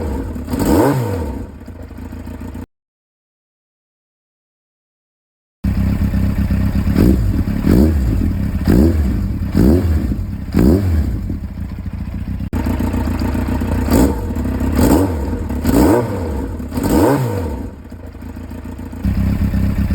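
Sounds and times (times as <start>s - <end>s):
motorcycle engine idling and revving: 0.0s - 2.7s, 5.6s - 19.9s.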